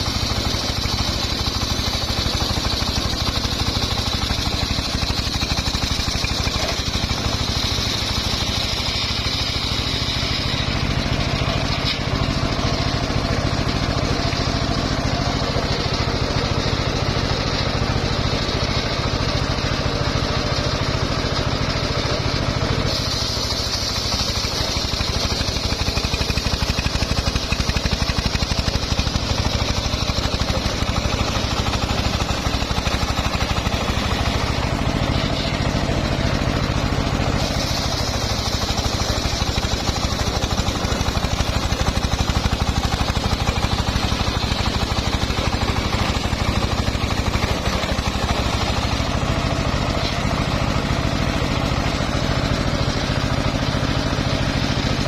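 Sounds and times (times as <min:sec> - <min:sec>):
circular sawmill sawing wood: 0:00.0 - 0:55.0.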